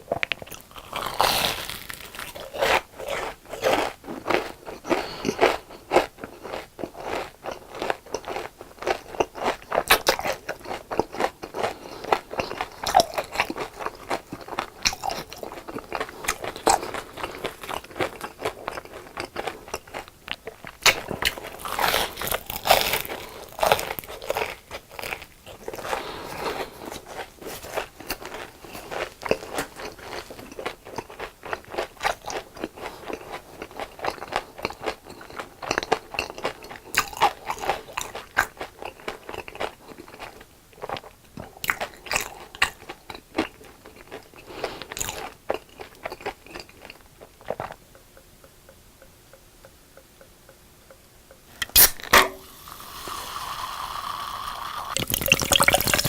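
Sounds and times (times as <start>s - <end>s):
crunching and chewing crispy food: 0.0s - 48.0s, 51.8s - 56.0s.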